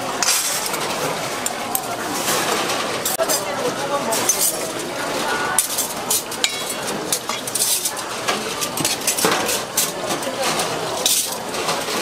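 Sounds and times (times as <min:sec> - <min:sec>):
background chatter: 0:00.0 - 0:12.0
metal tongs clinking on steel bowls: 0:00.2 - 0:02.0, 0:03.0 - 0:12.0.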